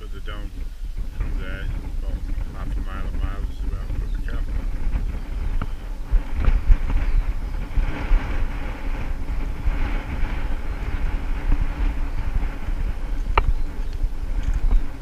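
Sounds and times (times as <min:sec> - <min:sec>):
wind buffeting microphone: 0:00.0 - 0:15.0
footsteps on stony path: 0:00.4 - 0:15.0.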